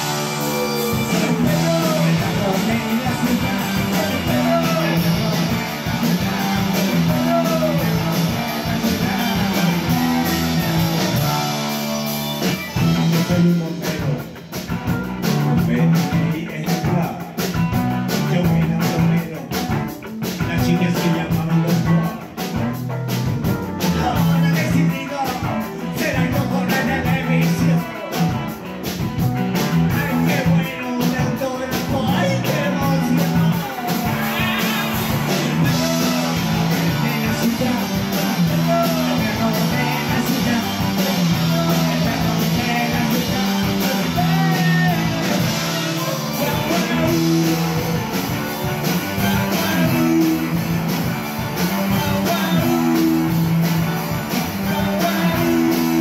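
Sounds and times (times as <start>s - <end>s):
man singing: 0.0s - 22.9s, 23.8s - 56.0s
bass guitar: 0.0s - 56.0s
drums: 0.0s - 56.0s
electric guitar: 0.0s - 56.0s.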